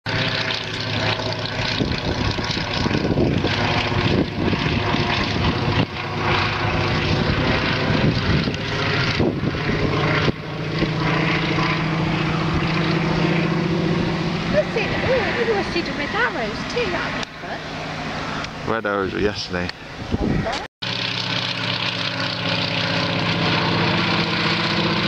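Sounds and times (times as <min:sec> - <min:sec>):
propeller plane flying past: 0:00.1 - 0:25.0.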